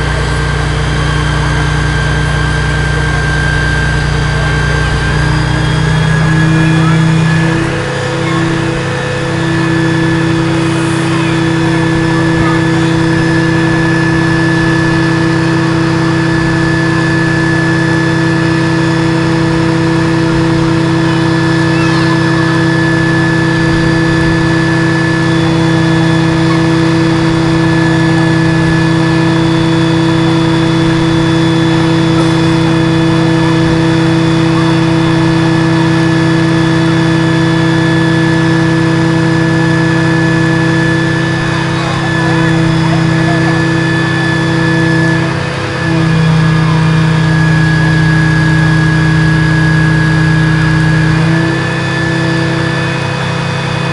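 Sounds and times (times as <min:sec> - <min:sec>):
fire truck diesel engine running: 0:00.0 - 0:53.9
thin high whine: 0:00.0 - 0:53.9.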